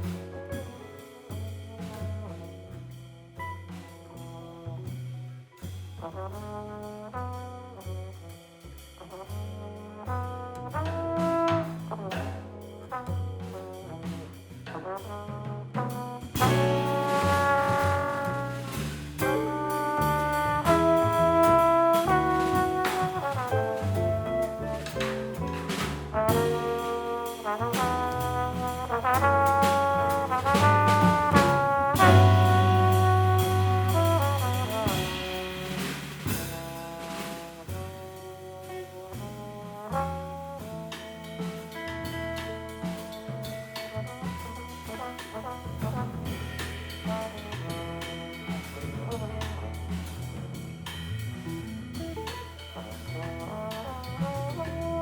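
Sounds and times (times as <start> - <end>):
walking bass: 0.0 - 5.4, 9.0 - 55.0
jazz guitar: 0.0 - 8.1, 9.0 - 55.0
drums with cymbals: 0.0 - 55.0
trombone melody: 6.0 - 8.1, 9.0 - 50.7, 52.8 - 55.0.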